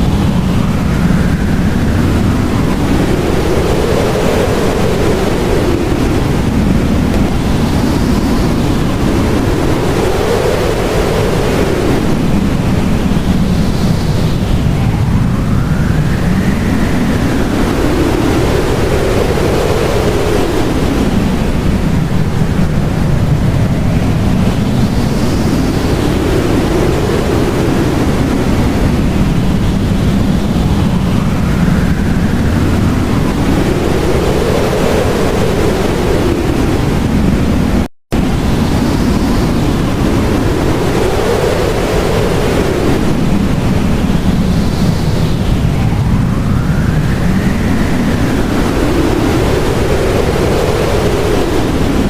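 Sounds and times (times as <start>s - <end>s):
howling blizzard wind: 0.0s - 52.0s.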